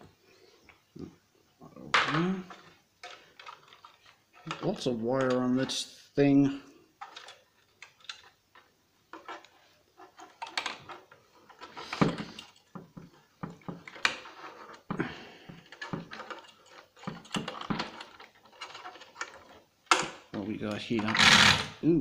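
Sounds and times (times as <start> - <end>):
handling wires on metal plate: 1.8 - 5.8, 7.0 - 21.3.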